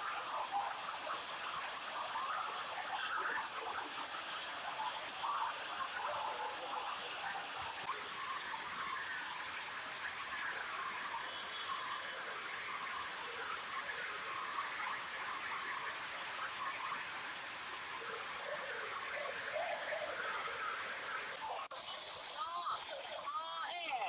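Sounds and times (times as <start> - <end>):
distant rushing floodwater: 0.0 - 21.4.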